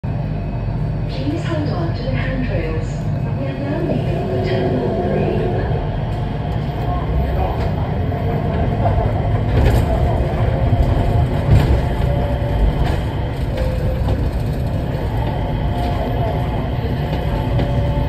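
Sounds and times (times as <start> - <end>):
people mover train rumbling: 0.0 - 18.0.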